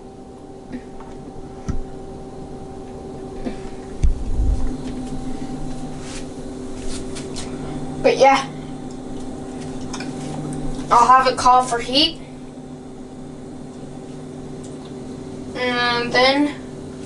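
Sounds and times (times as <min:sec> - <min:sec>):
furnace blower humming: 0:00.0 - 0:17.0.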